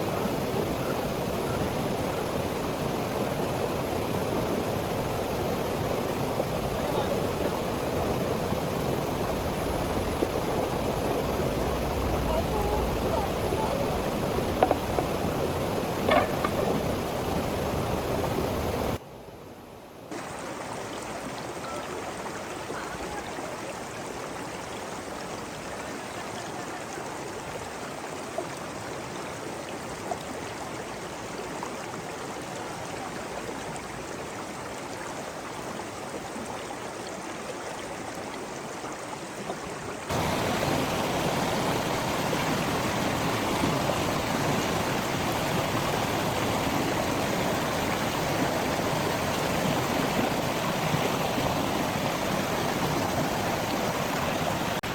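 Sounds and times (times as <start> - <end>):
running water rushing: 0.0 - 19.0, 20.1 - 54.9.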